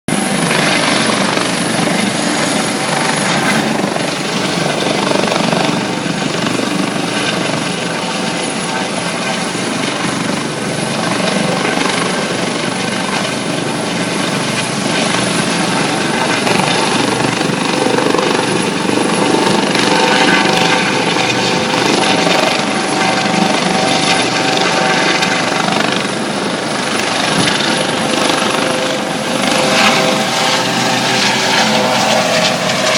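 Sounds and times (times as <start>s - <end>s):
helicopter running: 0.1s - 32.9s.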